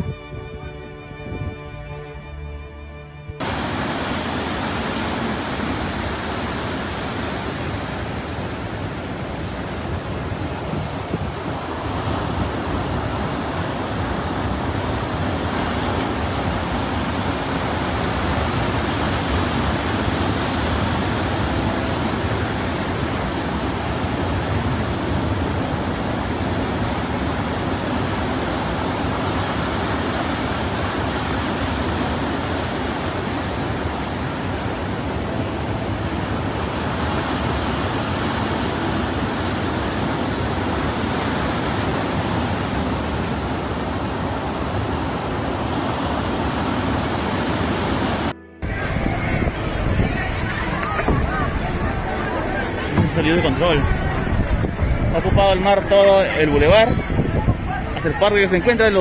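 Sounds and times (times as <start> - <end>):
heavy surf breaking: 3.4 - 59.0
wind buffeting microphone: 3.4 - 59.0.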